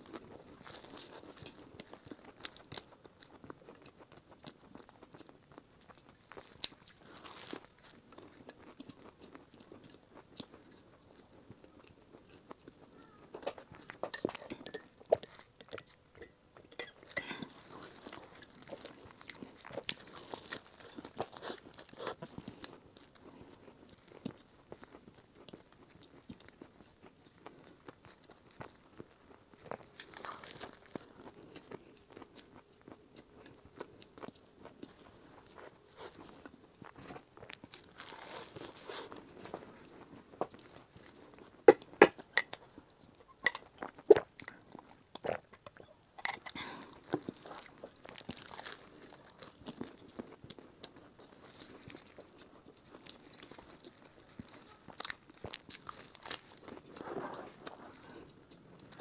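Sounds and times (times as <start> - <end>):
pastry crust crunching: 0.0 - 59.0
slow chewing: 0.0 - 59.0.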